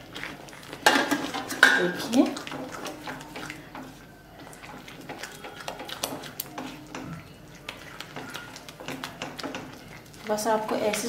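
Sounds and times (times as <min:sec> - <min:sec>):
spatula scraping a pan: 0:00.0 - 0:11.0
wet squelch of semolina: 0:00.0 - 0:11.0.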